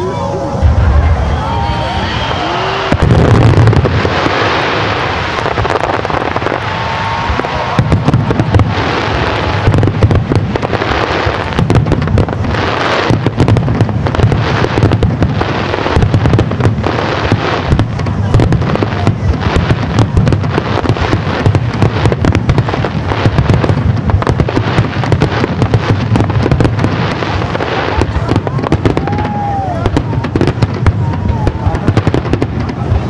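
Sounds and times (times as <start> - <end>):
fireworks crackling: 0.0 - 33.0
fireworks booming: 0.4 - 33.0.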